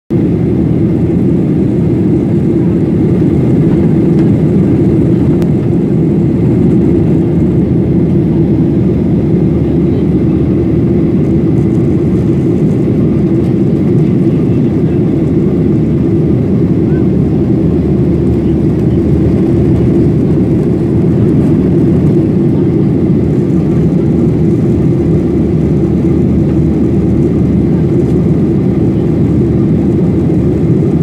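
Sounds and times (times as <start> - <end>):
airliner cabin engine rumble: 0.1 - 31.0.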